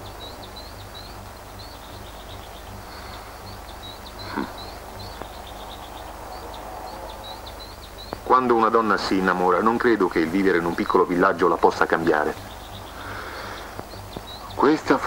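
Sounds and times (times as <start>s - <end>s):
low hum: 0.0s - 15.0s
small birds chirping: 0.0s - 15.0s.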